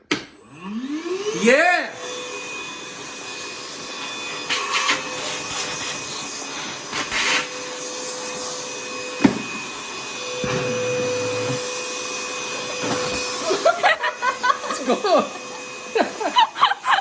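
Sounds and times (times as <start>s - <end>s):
vacuum cleaner whirring: 0.0s - 17.0s.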